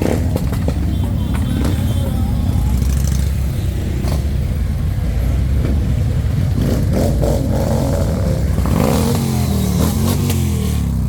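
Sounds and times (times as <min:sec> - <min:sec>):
motorcycle engine revving: 0:00.0 - 0:11.0
motorcycles riding past: 0:00.0 - 0:11.0.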